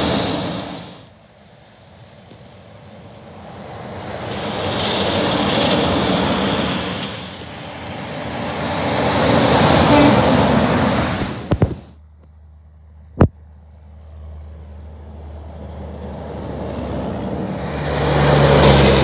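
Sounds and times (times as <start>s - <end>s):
trucks passing on highway: 0.0s - 19.0s.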